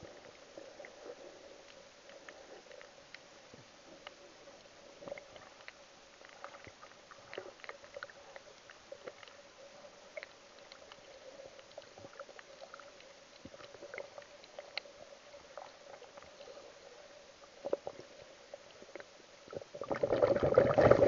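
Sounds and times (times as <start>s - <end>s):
faint underwater hum: 0.0s - 21.0s.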